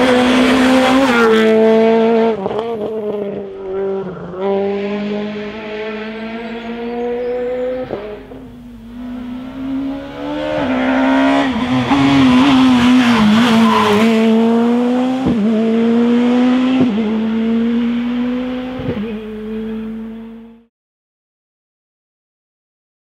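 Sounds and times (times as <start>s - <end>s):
rally car engine revving past: 0.0s - 20.6s.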